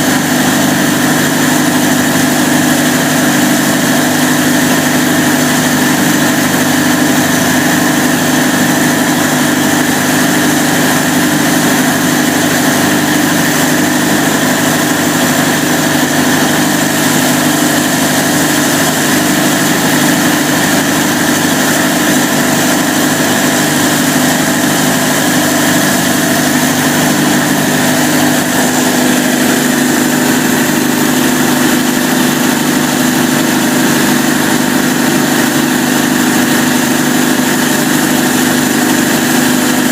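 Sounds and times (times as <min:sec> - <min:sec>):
diesel generator engine running: 0:00.0 - 0:39.9.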